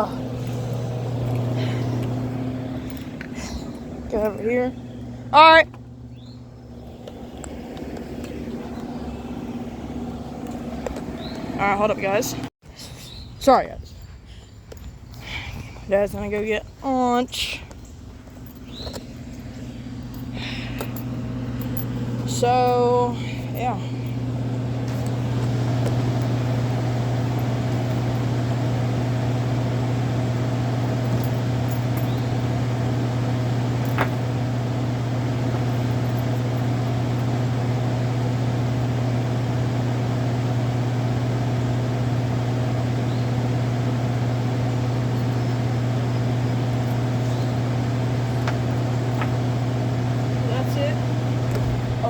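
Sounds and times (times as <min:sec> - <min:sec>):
steady motor hum: 0:00.0 - 0:52.0.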